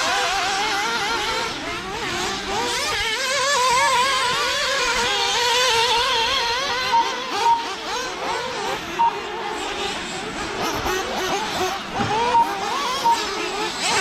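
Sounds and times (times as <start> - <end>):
small rc car engines revving: 0.0 - 14.0.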